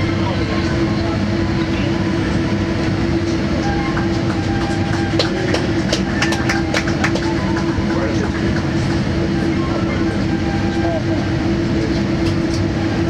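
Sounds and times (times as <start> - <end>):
mechanical rumble with hum: 0.0 - 13.0.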